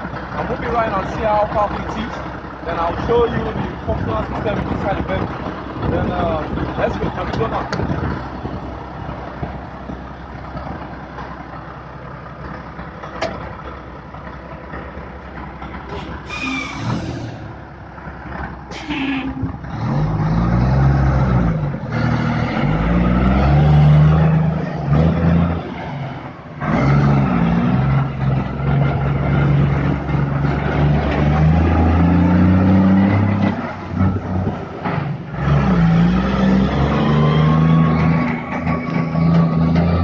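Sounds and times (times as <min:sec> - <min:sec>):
heavy truck engine accelerating: 0:00.0 - 0:40.0.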